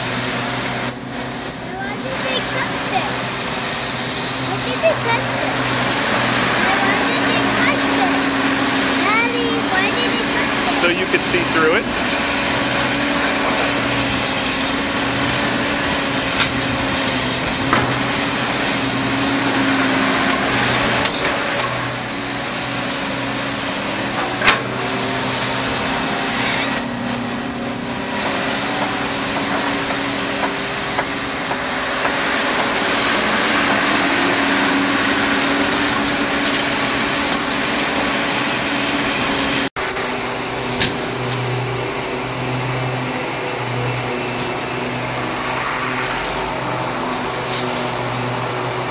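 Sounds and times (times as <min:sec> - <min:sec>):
backhoe diesel engine running: 0:00.0 - 0:48.9.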